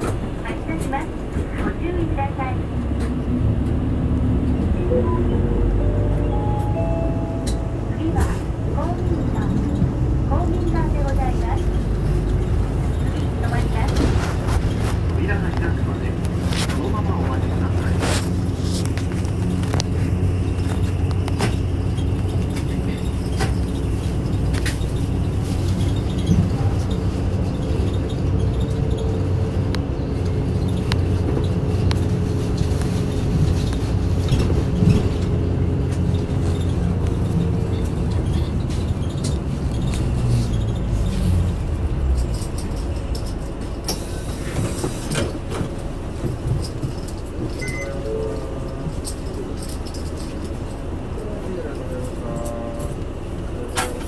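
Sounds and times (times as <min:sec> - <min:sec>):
bus diesel engine drone: 0:00.0 - 0:54.0.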